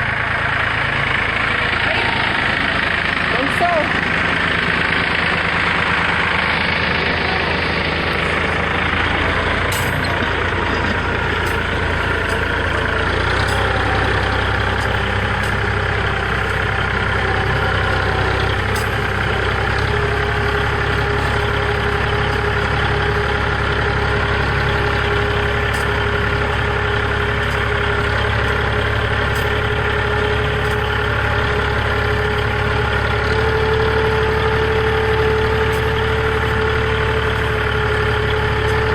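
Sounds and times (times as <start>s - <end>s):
steady whine: 0.0s - 38.9s
tractor engine running: 0.0s - 38.9s.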